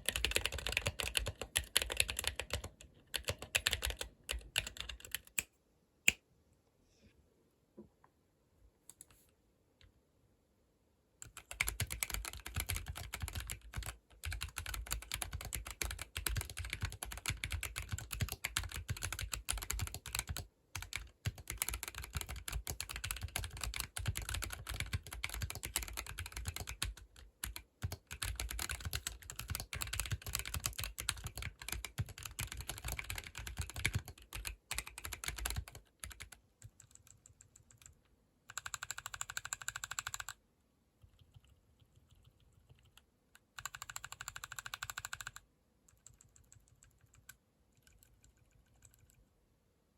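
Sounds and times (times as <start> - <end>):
fast mechanical keyboard typing: 0.0 - 5.4, 11.2 - 40.4, 41.0 - 49.2.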